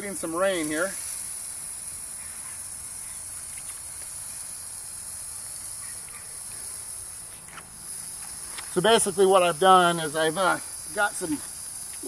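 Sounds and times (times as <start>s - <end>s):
garden hose water hiss: 0.0s - 12.0s.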